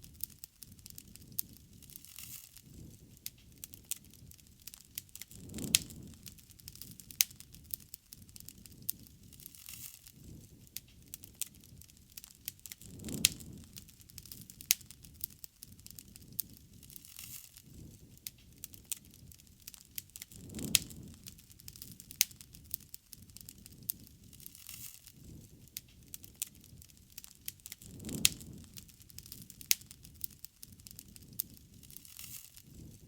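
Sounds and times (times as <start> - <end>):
bonfire crackling and popping: 0.0 - 33.0
low rush of burning: 0.0 - 33.0.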